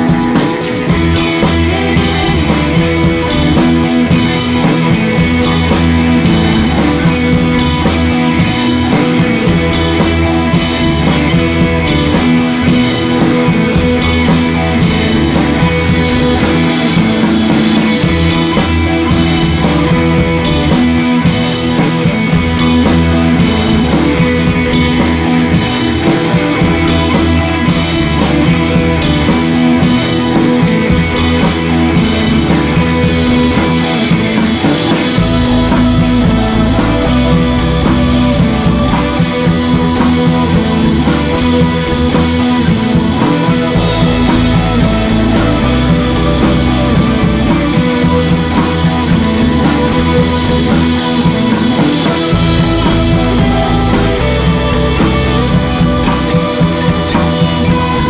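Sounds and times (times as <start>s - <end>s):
rock music: 0.0s - 58.0s.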